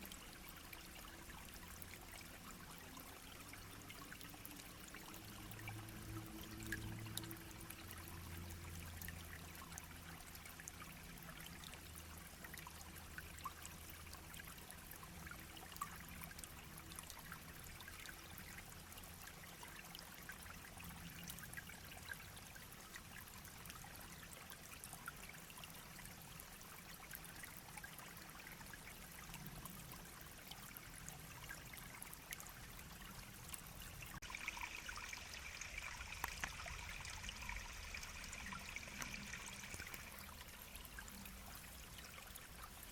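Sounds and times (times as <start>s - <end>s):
stream babbling over stones: 0.0s - 42.9s.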